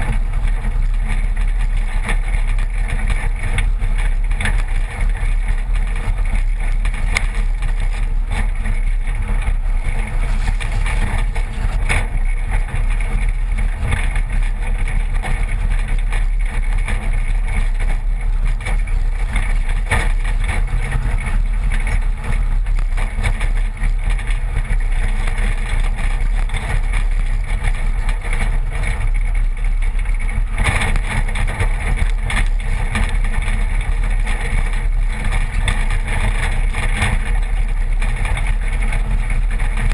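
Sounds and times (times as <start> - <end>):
low road rumble: 0.0 - 39.9
tyres on gravel: 0.0 - 39.9.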